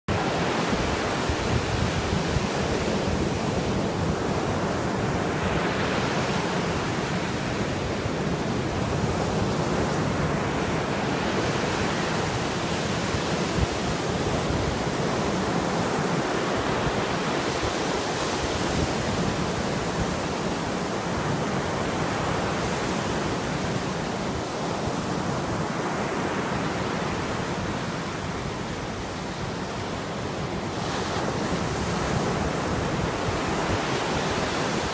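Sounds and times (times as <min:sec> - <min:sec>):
waves breaking on shore: 0:00.1 - 0:34.9
wind on microphone: 0:00.1 - 0:34.9.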